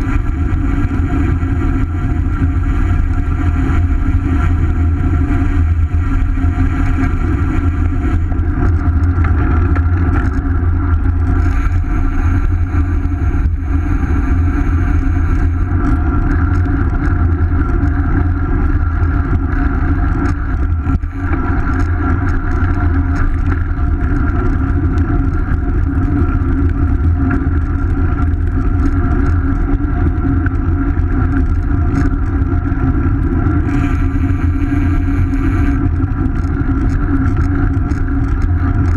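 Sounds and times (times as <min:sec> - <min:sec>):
bicycle tyre and road noise: 0:00.0 - 0:38.9
wind rushing over microphone: 0:00.0 - 0:38.9.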